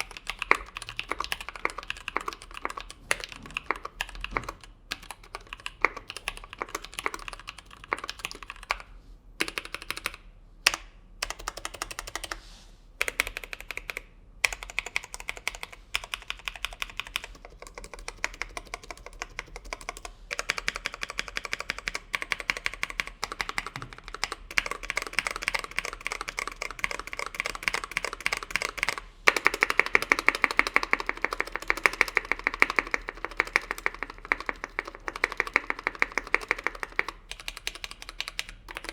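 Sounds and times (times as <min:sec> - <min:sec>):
typing on mechanical keyboard: 0:00.0 - 0:12.4, 0:13.0 - 0:38.9.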